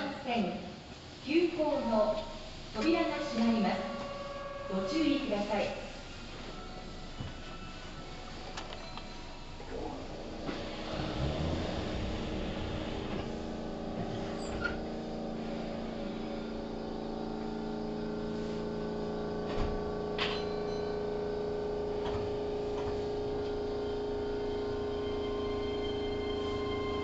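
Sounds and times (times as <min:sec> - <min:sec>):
train car hum: 0:00.7 - 0:27.0.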